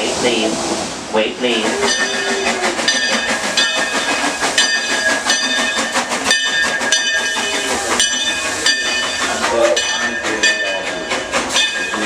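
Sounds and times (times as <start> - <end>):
steam hissing: 0.0 - 12.0
locomotive bell ringing: 1.5 - 12.0.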